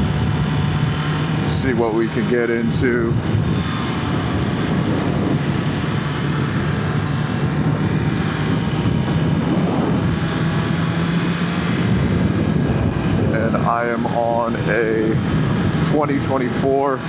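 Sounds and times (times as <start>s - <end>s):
motorcycle engine cruising: 0.0s - 17.0s
wind rush: 0.0s - 17.0s.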